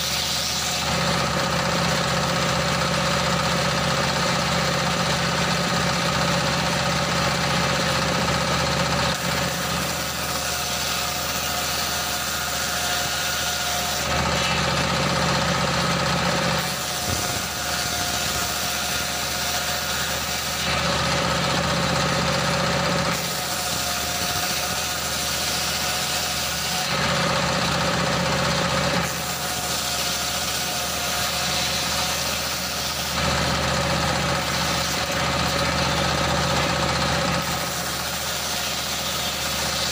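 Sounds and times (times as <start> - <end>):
circular saw cutting log: 0.0 - 39.9.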